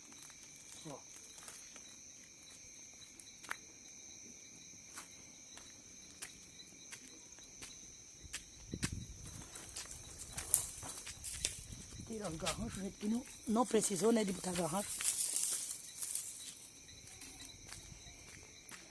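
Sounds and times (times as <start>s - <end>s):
crickets chirring: 0.0s - 18.9s.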